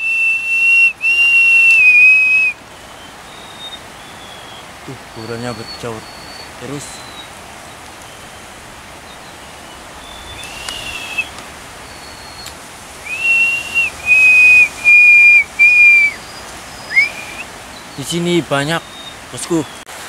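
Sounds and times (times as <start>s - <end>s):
whistled notes: 0.0s - 7.3s, 9.7s - 19.9s.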